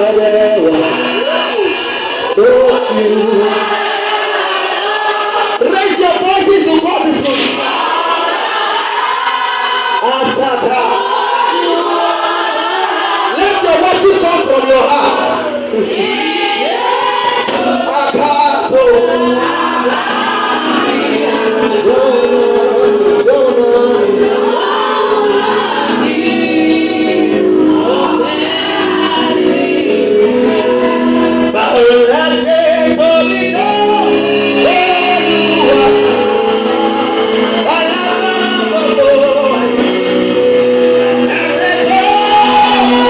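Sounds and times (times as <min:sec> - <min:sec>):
group singing gospel music: 0:00.0 - 0:43.0.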